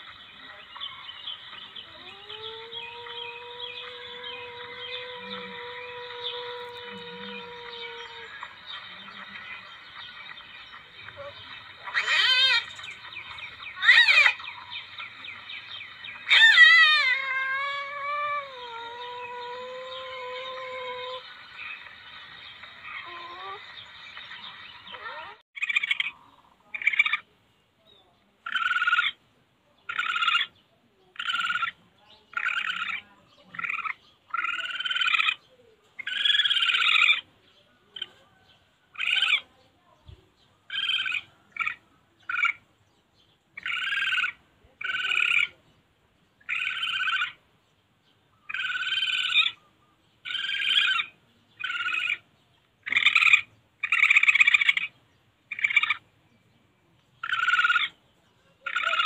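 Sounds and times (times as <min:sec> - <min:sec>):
recorded civet calls: 0:00.0 - 0:27.3, 0:28.4 - 0:29.2, 0:29.8 - 0:39.6, 0:40.6 - 0:42.7, 0:43.5 - 0:45.8, 0:46.4 - 0:47.5, 0:48.4 - 0:56.1, 0:57.2 - 0:59.0.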